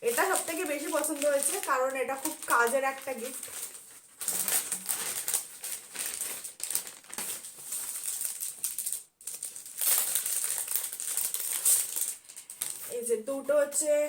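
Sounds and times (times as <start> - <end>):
gift wrapping rustling and crinkling: 0.0 - 13.1.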